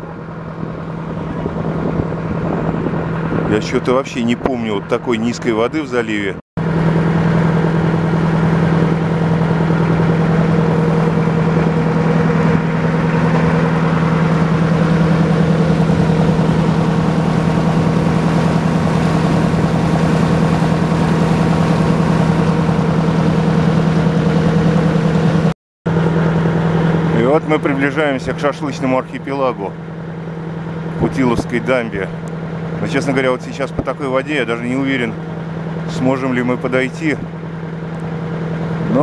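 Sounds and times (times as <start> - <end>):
motorboat engine humming: 0.0 - 39.0
water rushing along hull: 0.0 - 39.0.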